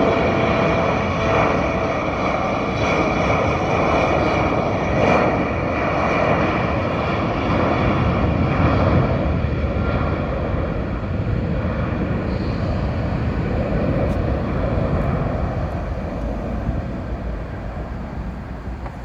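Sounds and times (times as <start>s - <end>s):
airliner engines running: 0.0s - 19.0s.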